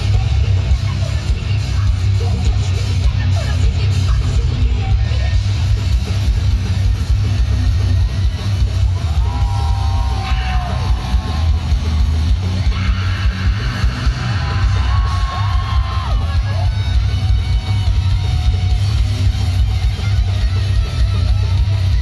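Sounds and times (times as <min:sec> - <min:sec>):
live heavy rock music: 0:00.0 - 0:22.0.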